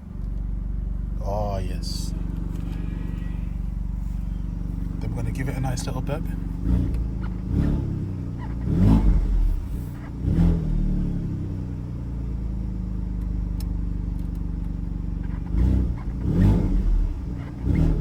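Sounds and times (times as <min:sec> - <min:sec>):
car engine idling: 0:00.0 - 0:18.0
car engine revving: 0:01.3 - 0:18.0.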